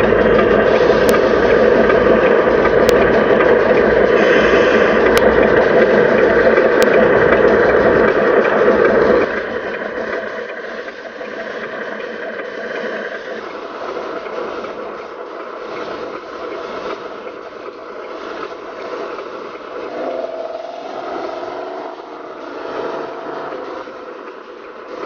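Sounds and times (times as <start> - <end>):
toy truck motor drone: 0.0 - 11.8, 15.9 - 25.0.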